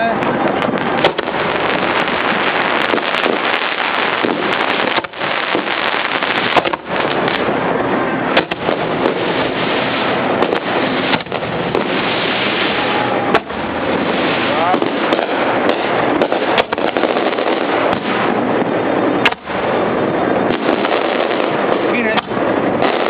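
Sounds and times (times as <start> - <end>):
fireworks launching and bursting: 0.0 - 23.0.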